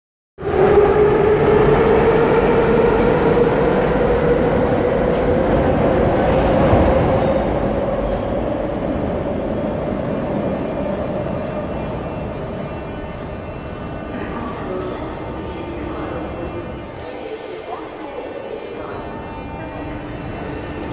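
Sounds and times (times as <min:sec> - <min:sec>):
metro train rumble and hum: 0:00.4 - 0:20.9.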